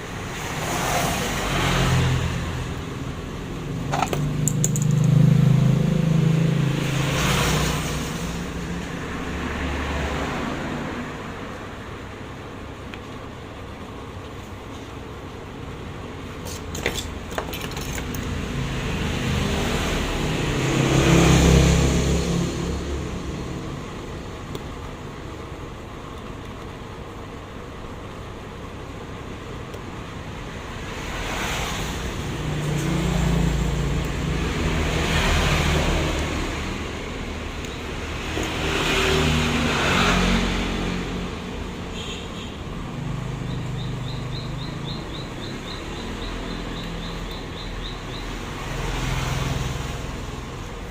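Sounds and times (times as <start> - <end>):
road vehicles passing: 0.0 - 50.9.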